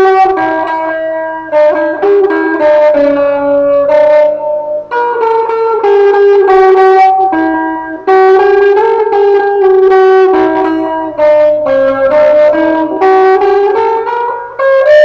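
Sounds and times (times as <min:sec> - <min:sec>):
instrumental melody of held notes: 0:00.0 - 0:15.0.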